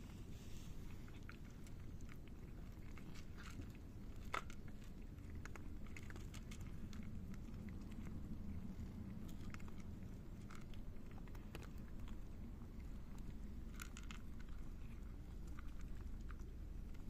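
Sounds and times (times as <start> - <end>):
cats crunching dry kibble: 0.0 - 17.0
low steady rumble: 0.0 - 17.0.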